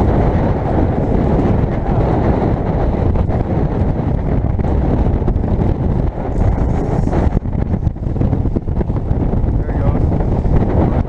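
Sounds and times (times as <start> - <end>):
outboard motor running: 0.0 - 11.0
water splashing along hull: 0.0 - 11.0
wind buffeting microphone: 0.0 - 11.0.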